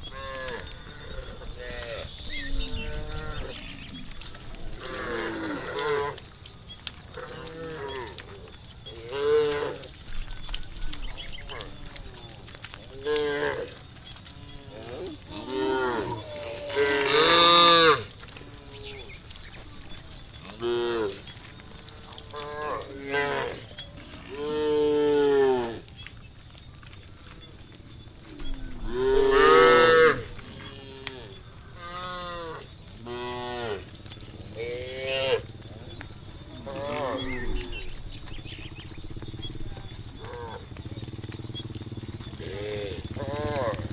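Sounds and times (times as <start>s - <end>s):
cows mooing: 0.1s - 6.2s, 7.1s - 10.0s, 12.9s - 19.2s, 20.3s - 25.9s, 28.3s - 43.9s.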